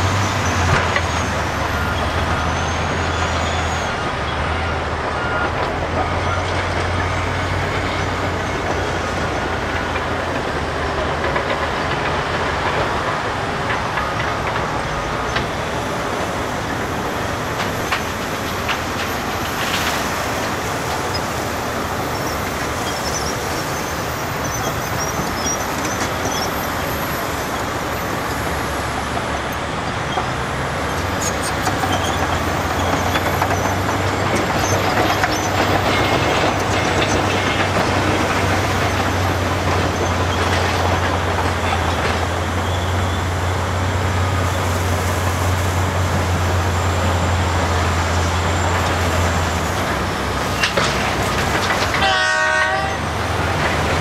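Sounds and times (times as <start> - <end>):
excavator diesel engine and hydraulics: 0.0 - 54.0
haul truck engine: 0.0 - 54.0.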